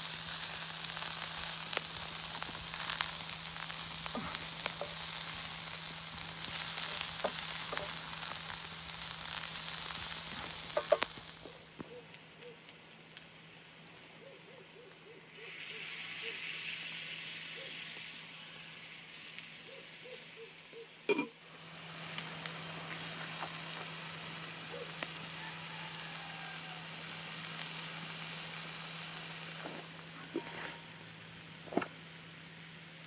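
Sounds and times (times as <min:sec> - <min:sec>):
vegetables sizzling in oil: 0:00.0 - 0:11.9, 0:15.4 - 0:19.6, 0:21.4 - 0:33.0.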